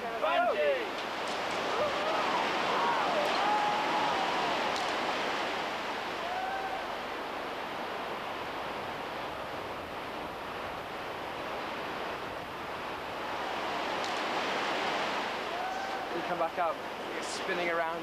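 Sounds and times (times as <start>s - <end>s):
distant white water: 0.0s - 18.0s
wind: 0.0s - 18.0s.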